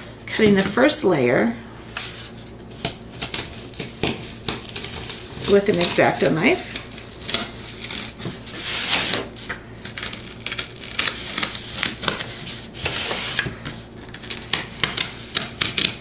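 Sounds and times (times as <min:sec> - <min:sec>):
craft knife cutting cardboard: 0:02.8 - 0:16.0.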